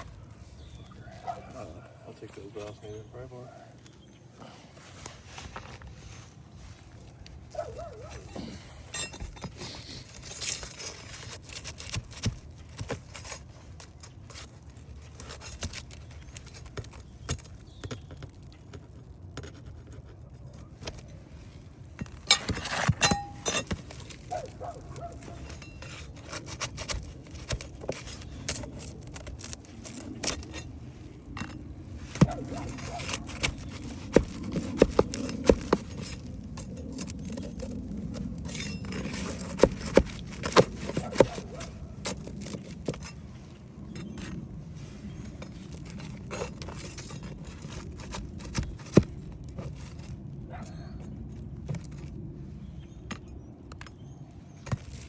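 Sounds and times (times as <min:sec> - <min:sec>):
metal tools and nails clinking: 0:03.7 - 0:04.6, 0:07.2 - 0:52.2.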